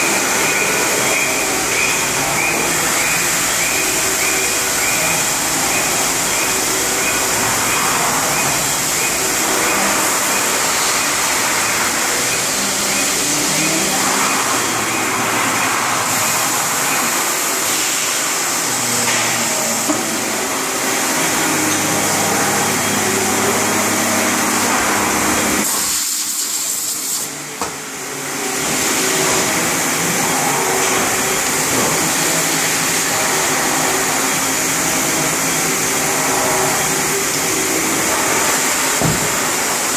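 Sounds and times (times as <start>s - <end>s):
stepper motor tones: 0.0s - 25.7s, 27.4s - 39.9s
cnc spindle noise: 0.0s - 39.9s.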